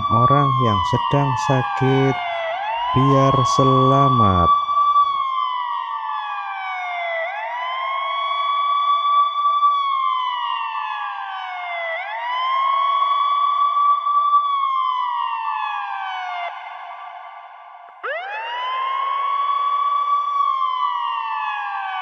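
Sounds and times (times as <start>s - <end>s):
ambulance siren wailing: 0.0s - 13.7s, 18.0s - 22.0s.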